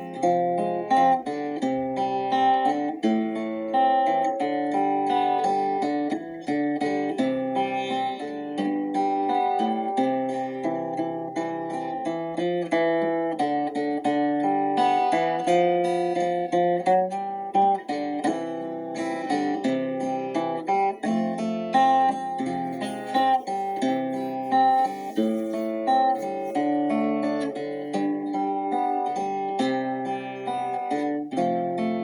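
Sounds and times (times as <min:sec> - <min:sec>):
acoustic guitar melody: 0:00.0 - 0:32.0.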